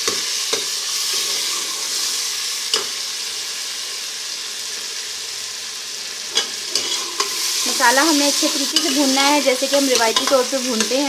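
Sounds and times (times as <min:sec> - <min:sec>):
masala sizzling in ghee: 0:00.0 - 0:11.0.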